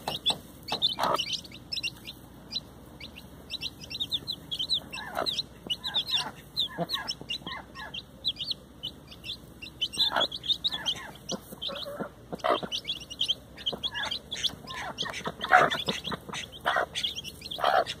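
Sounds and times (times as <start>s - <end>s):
chicks peeping: 0.0s - 18.0s
hen clucking: 0.0s - 18.0s.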